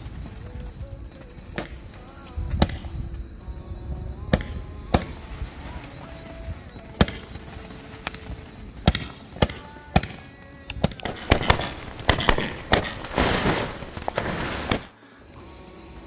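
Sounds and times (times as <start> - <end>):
firework shots popping: 0.0 - 3.3, 4.2 - 14.9
firework crackling hiss: 0.0 - 15.0.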